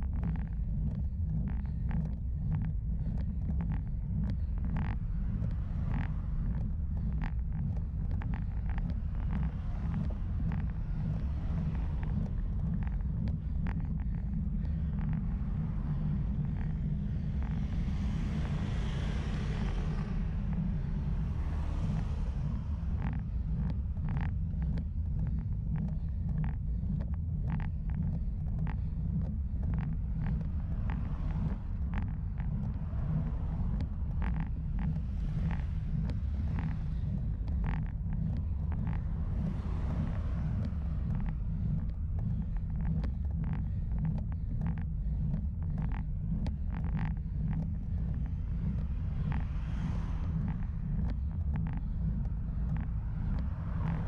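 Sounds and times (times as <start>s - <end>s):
road rumble: 0.0s - 54.0s
small ticks: 0.0s - 54.0s.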